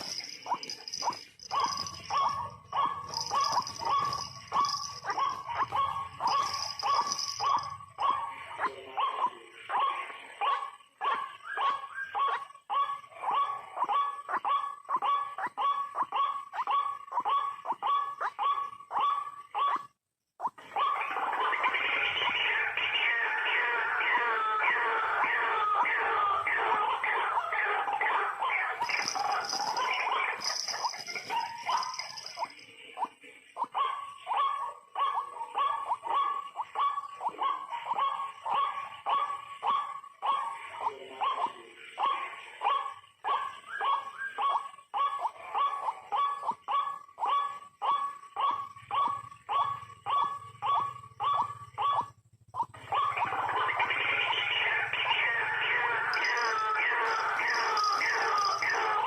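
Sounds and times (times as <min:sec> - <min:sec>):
waterhen bark-like calls: 0:00.0 - 0:19.9, 0:20.6 - 0:59.0.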